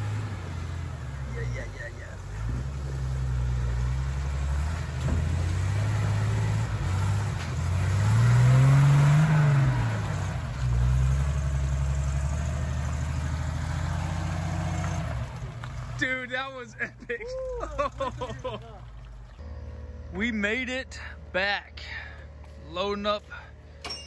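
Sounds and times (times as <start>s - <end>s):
truck engine revving: 0.0s - 21.3s.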